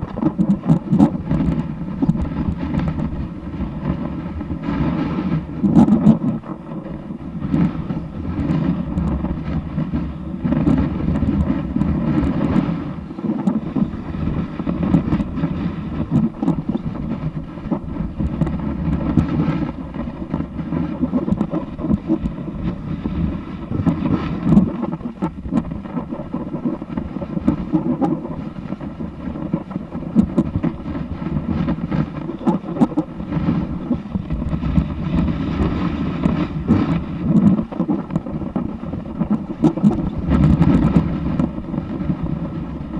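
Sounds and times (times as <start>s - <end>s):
snowboard sliding over snow: 0.0s - 42.9s
wind on the microphone: 0.0s - 42.9s.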